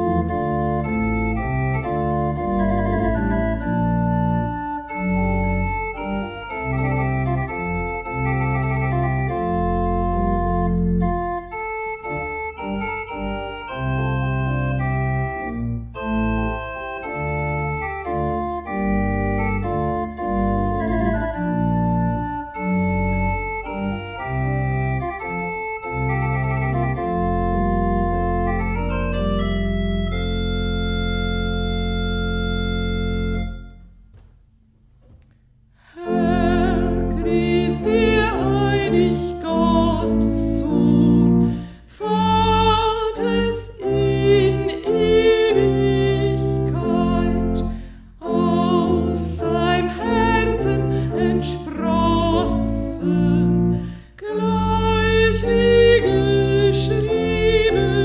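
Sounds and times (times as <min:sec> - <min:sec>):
solo melody with vibrato: 0:00.0 - 0:34.1, 0:35.9 - 0:58.0
pipe organ playing chords: 0:00.0 - 0:34.9, 0:36.0 - 0:58.0.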